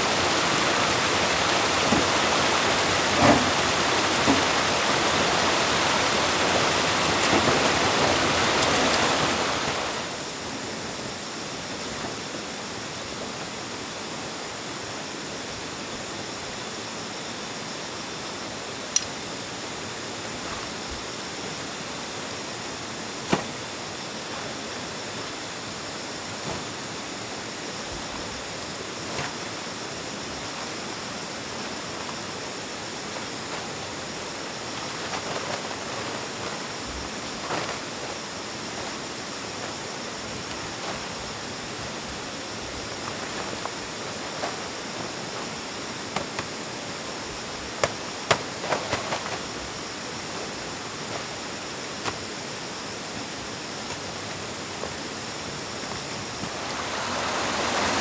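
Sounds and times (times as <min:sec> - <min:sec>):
background hiss: 0:00.0 - 0:58.0.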